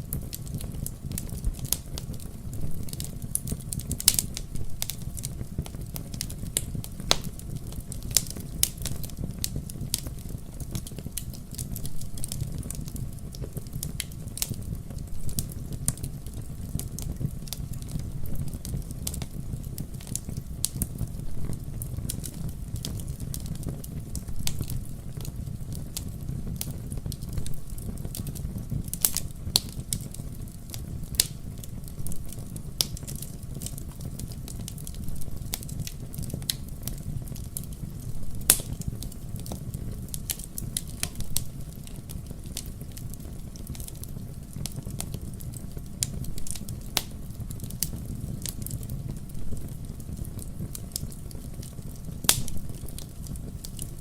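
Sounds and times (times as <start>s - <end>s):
fire crackling and popping: 0.0s - 54.0s
fire rumbling in fireplace: 0.0s - 54.0s.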